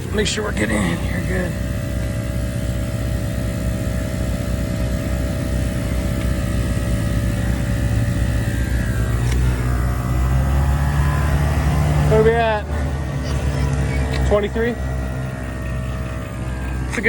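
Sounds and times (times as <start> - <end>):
air compressor running: 0.0 - 17.0.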